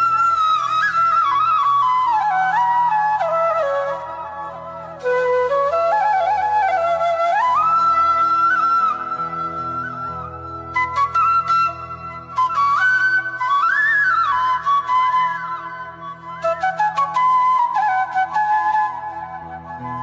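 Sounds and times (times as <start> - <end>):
flute melody: 0.0 - 20.0.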